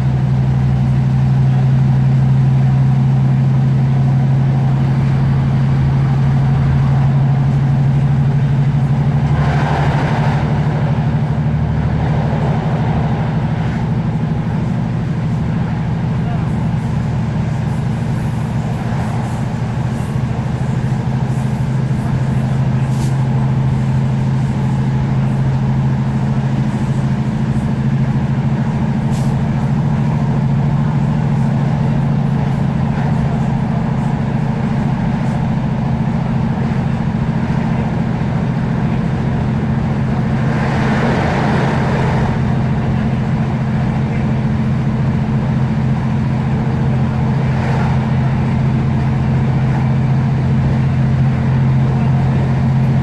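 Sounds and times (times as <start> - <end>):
diesel train engine drone: 0.0 - 53.0
train running noise: 0.0 - 53.0.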